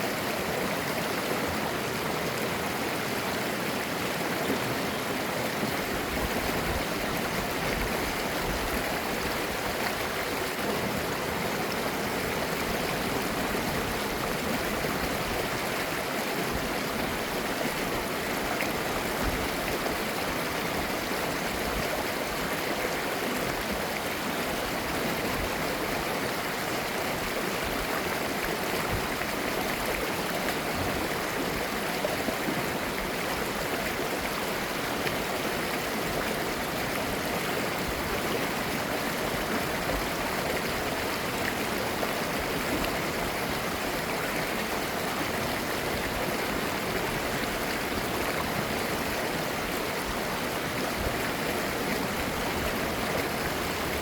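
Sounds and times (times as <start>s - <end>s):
stream flowing over rocks: 0.0s - 54.0s.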